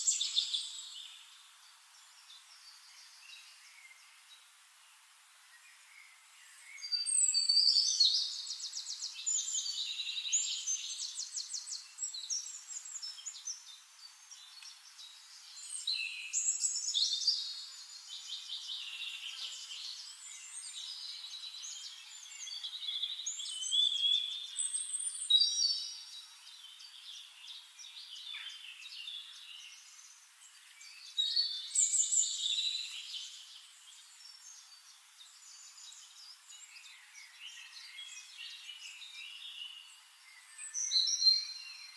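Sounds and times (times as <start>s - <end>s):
songbirds trilling and chirping: 0.0s - 41.9s.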